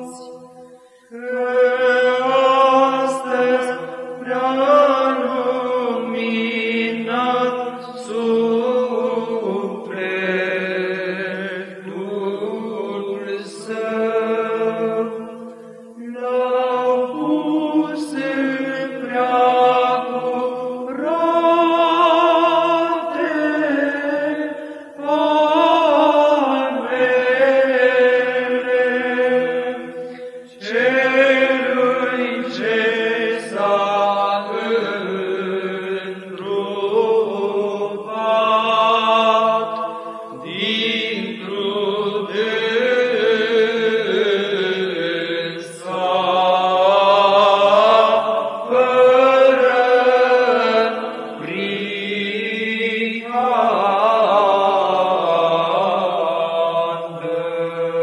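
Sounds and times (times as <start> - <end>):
male choir chanting: 0.0 - 58.0.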